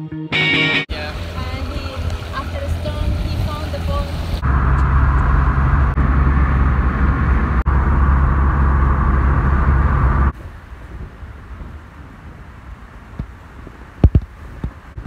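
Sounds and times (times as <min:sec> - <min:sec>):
car engine and road noise: 0:00.9 - 0:15.0.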